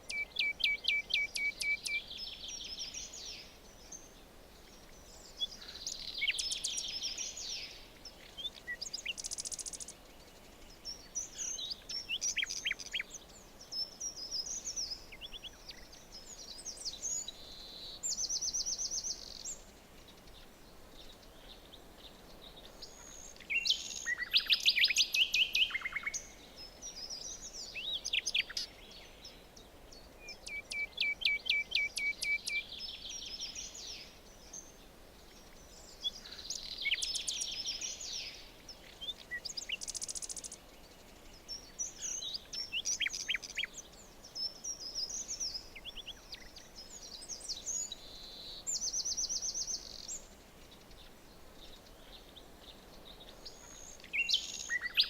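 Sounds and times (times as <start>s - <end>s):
birds chirping and trilling: 0.0s - 55.0s
faint steady hiss: 0.0s - 55.0s.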